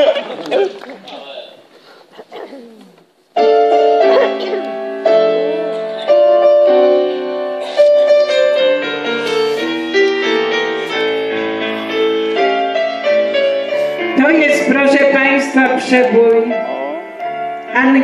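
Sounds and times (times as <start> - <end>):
grand piano slow chords: 3.4 - 18.0.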